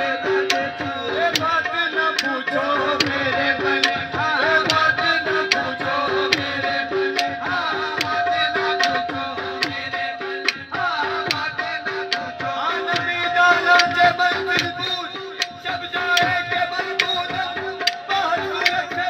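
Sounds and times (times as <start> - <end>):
tabla playing fast rhythm: 0.0 - 19.0.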